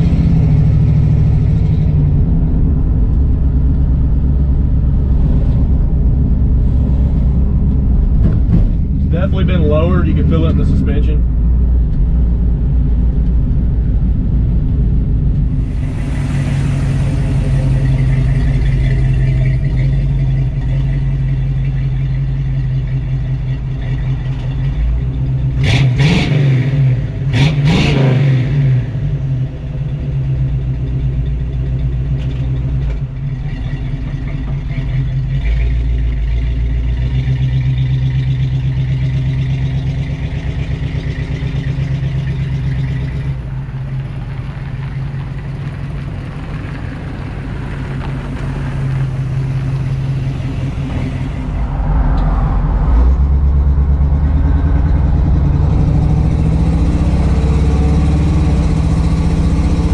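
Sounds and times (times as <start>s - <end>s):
truck passing by: 0.0s - 31.6s, 33.7s - 59.9s
truck engine exhaust drone: 0.0s - 59.9s.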